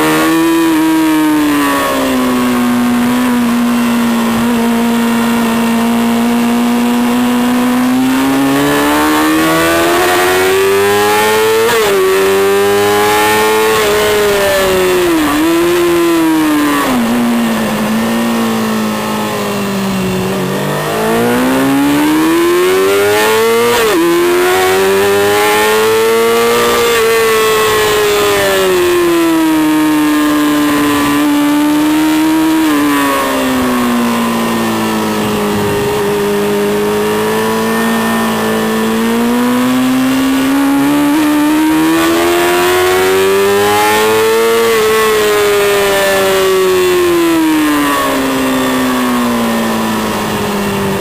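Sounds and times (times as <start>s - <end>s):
racing motorcycle engine revving: 0.0s - 51.0s.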